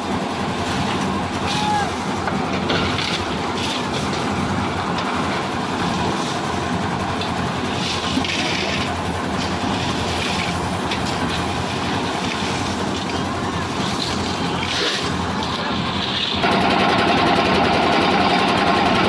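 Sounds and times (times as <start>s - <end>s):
concrete mixer rattling rumble: 0.0s - 19.0s.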